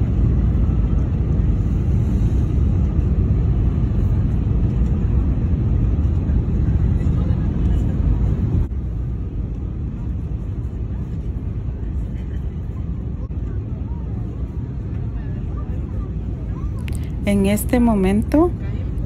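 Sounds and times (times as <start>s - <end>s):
airliner engines rumbling in cabin: 0.0s - 19.0s.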